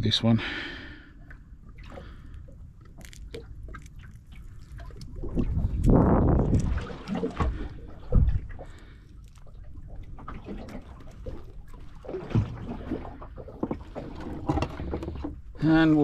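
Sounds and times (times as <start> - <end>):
water slapping against boat hull: 2.9 - 16.0.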